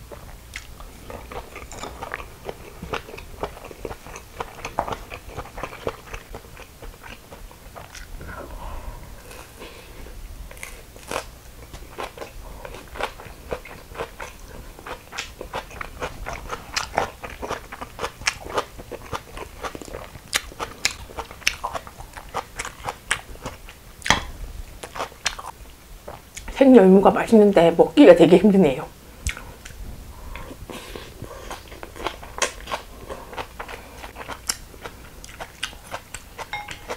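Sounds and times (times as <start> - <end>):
crisp chewing crunches: 0.1 - 8.2, 10.5 - 26.6, 31.1 - 36.6.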